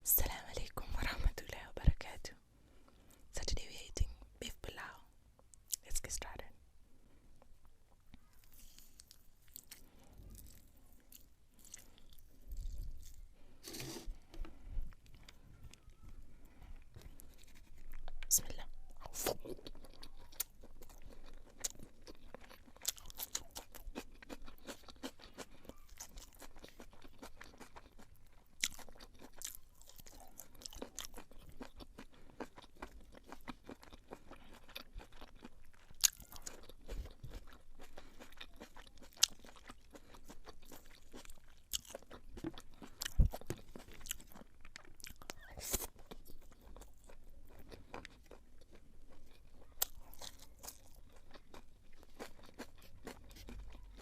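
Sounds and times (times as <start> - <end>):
close chewing: 7.4 - 54.0.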